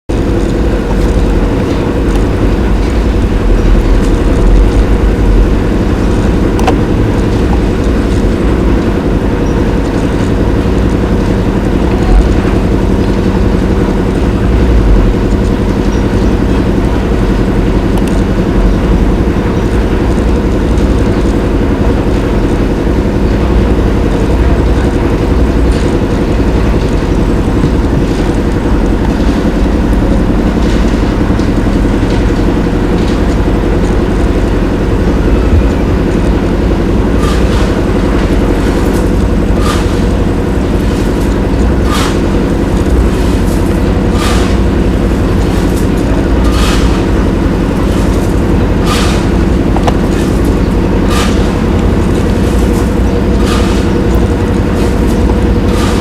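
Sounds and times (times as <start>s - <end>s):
low mechanical rumble: 0.0s - 56.0s.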